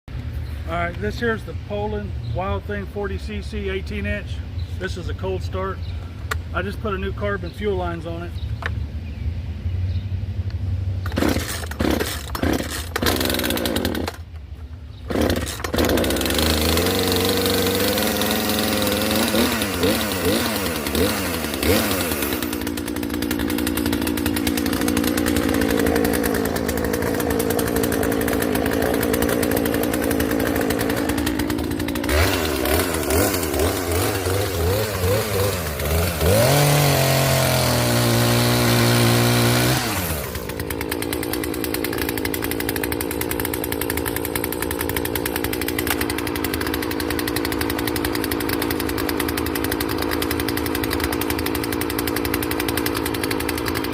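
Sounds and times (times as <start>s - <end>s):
chainsaw revving and idling: 2.6s - 8.3s, 10.9s - 14.3s, 15.0s - 53.9s.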